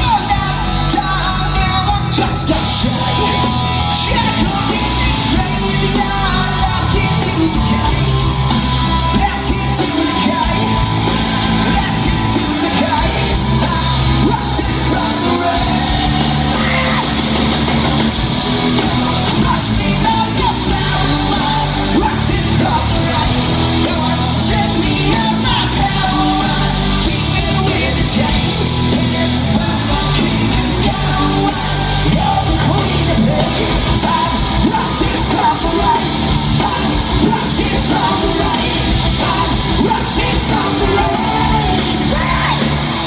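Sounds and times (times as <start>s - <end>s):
loud rock music: 0.0s - 43.0s.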